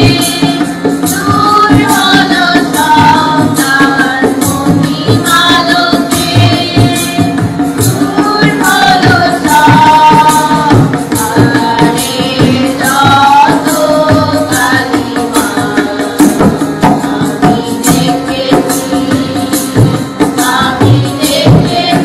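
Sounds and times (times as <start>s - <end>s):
devotional song melody: 0.0s - 22.0s
percussion beat with jingles: 0.0s - 22.0s.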